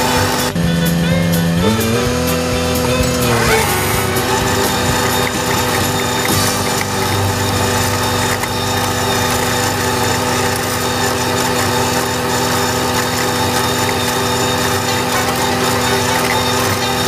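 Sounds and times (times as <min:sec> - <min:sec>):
mower rotor whirring: 0:00.0 - 0:17.0
tractor engine hum: 0:00.0 - 0:17.0.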